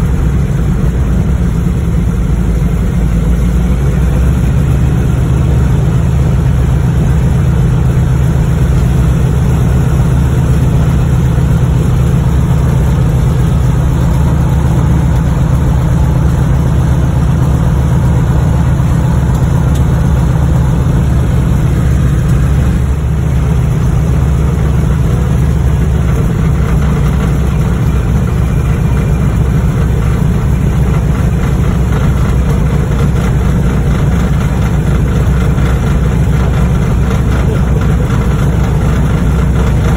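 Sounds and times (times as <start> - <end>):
aircraft engine droning: 0.0 - 39.9.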